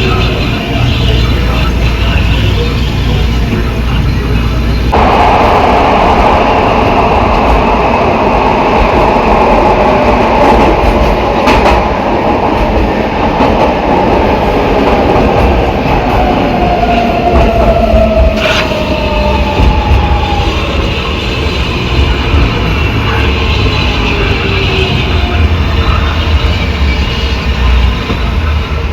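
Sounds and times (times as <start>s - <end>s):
wheel and rail rumble: 0.0s - 28.9s.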